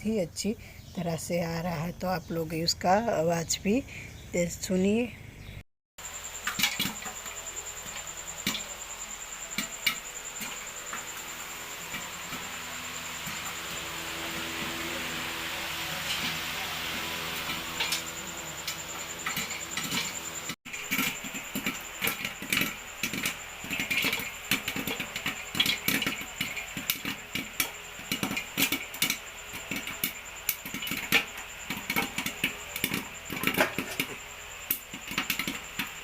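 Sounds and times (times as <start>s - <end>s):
popcorn popping in metal pot: 6.0s - 36.0s.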